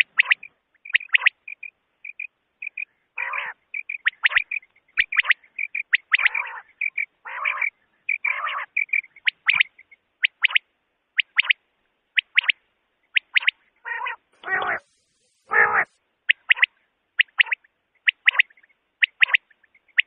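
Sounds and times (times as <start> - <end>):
harsh rasping bird calls: 0.0 - 10.6, 11.2 - 11.6, 12.2 - 20.0
quail whistled calls: 0.0 - 10.6, 11.2 - 11.6, 12.2 - 20.0.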